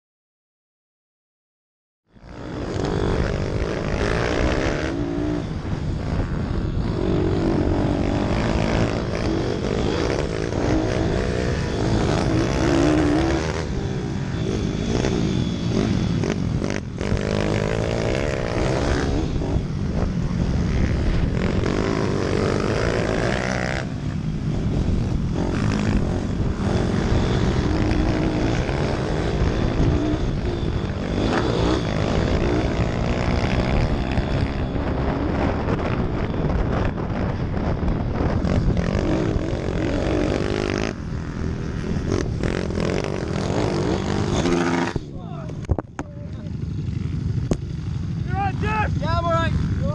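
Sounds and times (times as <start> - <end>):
minibike engine revving: 2.2 - 45.6.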